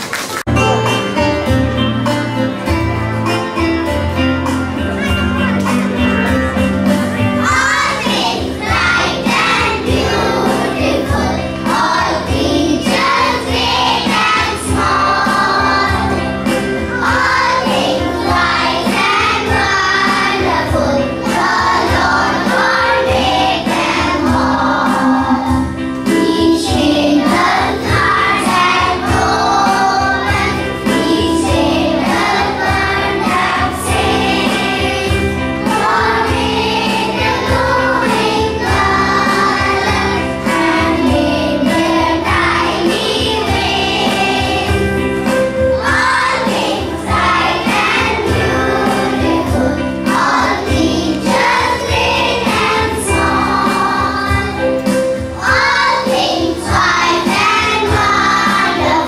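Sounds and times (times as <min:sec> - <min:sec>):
music with a steady beat: 0:00.5 - 0:59.0
children singing into microphones: 0:07.4 - 0:59.0.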